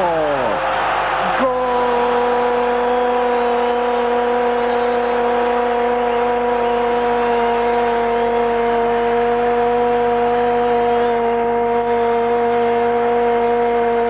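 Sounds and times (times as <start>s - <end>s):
stadium crowd cheering: 0.0s - 14.0s.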